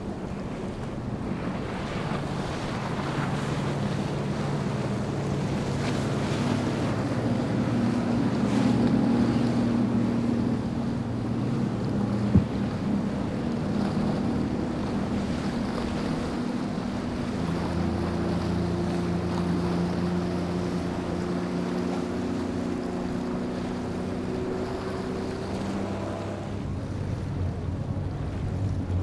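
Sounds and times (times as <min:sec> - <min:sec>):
boat wake rushing: 0:00.0 - 0:29.0
outboard motor drone: 0:00.0 - 0:29.0
wind on microphone: 0:00.0 - 0:29.0.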